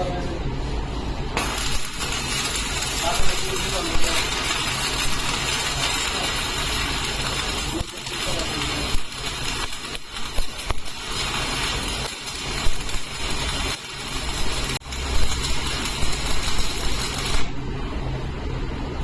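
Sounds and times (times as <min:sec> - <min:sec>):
welding arc crackling: 0:00.6 - 0:18.3.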